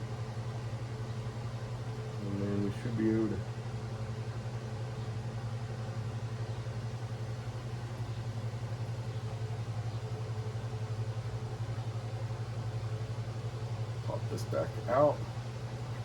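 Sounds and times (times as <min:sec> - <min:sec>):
low machine hum with flutter: 0:00.0 - 0:16.0.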